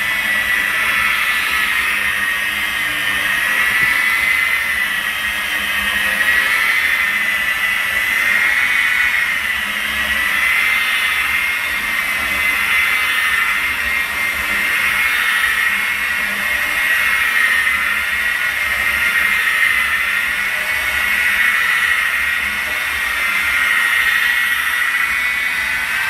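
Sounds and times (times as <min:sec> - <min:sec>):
machine polisher whining: 0:00.0 - 0:26.0.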